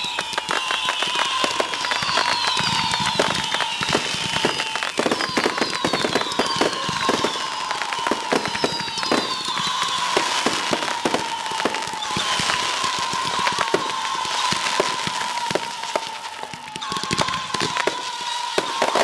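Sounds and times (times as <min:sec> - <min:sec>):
descending firework whistles: 0:00.0 - 0:19.0
fireworks crackling pops: 0:00.0 - 0:19.0
steady high whistle: 0:00.0 - 0:19.0.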